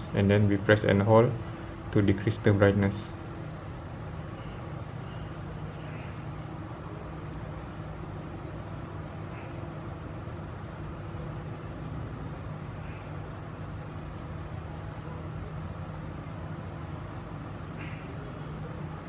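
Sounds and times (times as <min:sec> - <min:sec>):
constant hum: 0:00.0 - 0:19.0.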